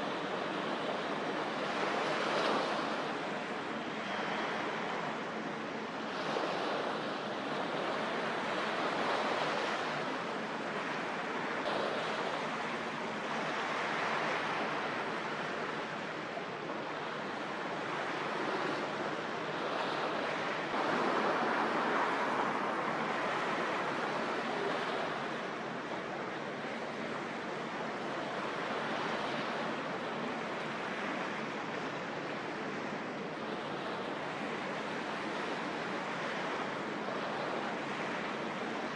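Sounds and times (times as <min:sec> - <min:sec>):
wind: 0:00.0 - 0:38.9
harbour waves: 0:06.1 - 0:38.9.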